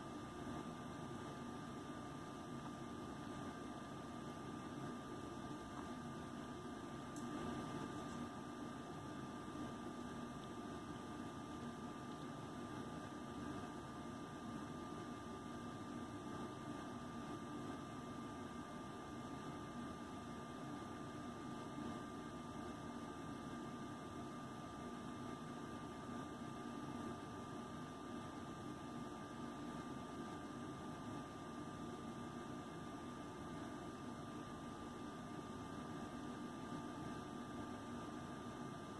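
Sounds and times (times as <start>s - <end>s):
room hum and hiss: 0.0s - 38.9s.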